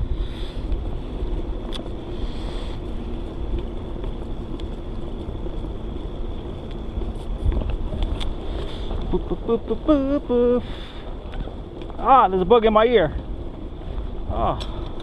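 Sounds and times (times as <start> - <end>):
bicycle riding noise: 0.0 - 15.0
wind rumble on microphone: 0.0 - 15.0.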